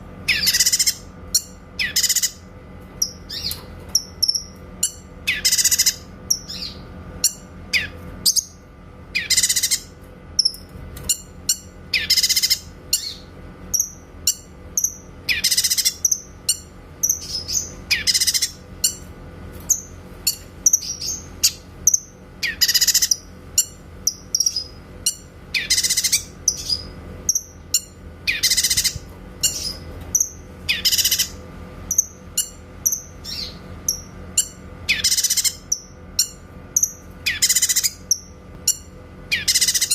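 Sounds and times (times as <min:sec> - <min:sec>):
faint steady hum: 0:00.0 - 0:39.9
bird singing sharp calls: 0:00.2 - 0:19.0, 0:19.7 - 0:39.9.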